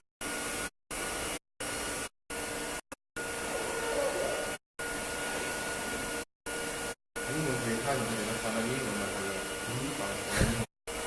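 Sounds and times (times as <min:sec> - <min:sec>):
fan-like air hiss with whine: 0:00.3 - 0:11.0.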